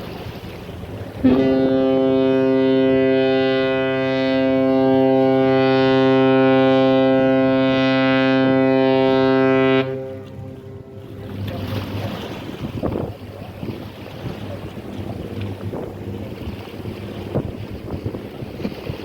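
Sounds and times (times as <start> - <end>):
ship horn long low blast: 0.0 - 19.0.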